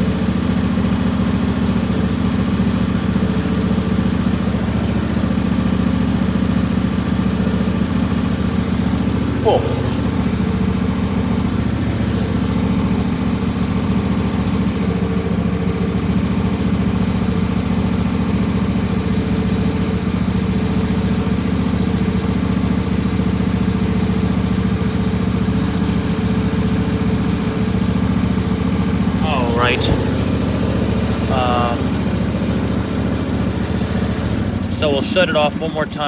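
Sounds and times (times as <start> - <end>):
lawn tractor engine running: 0.0 - 36.0.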